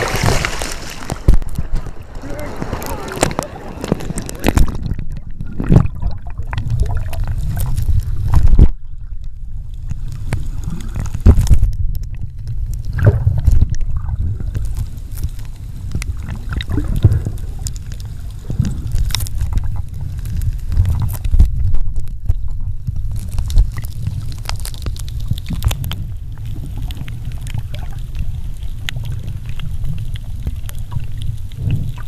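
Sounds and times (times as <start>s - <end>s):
underwater water rumble: 0.0s - 32.0s.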